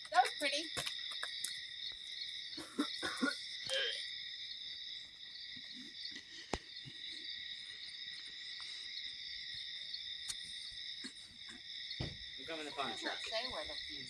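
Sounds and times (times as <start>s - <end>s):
crackles: 0.0s - 14.0s
crickets chirping: 0.0s - 14.0s.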